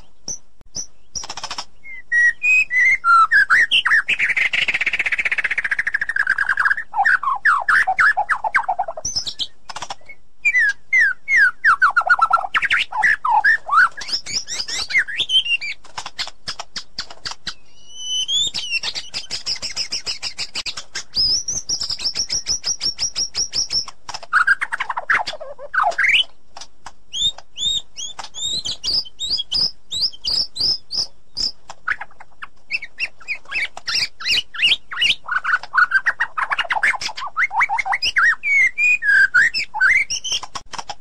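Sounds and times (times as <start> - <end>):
bird singing whistles and trills: 0.0 - 26.3, 27.1 - 40.5.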